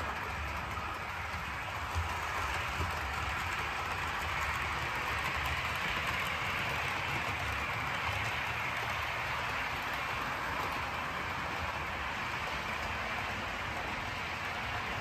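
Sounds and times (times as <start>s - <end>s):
model locomotive whirring: 0.0s - 15.0s.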